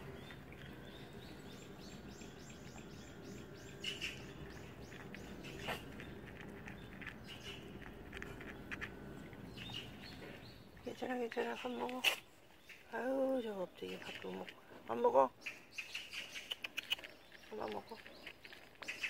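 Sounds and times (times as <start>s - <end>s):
bird chirping: 0.0s - 14.5s, 15.1s - 19.0s.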